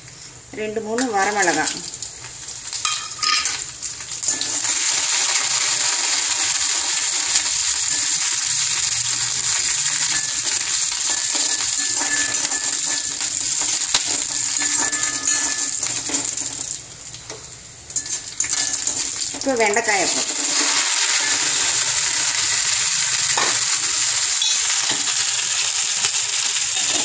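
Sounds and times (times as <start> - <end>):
spices sizzling in hot oil: 0.0 - 27.0.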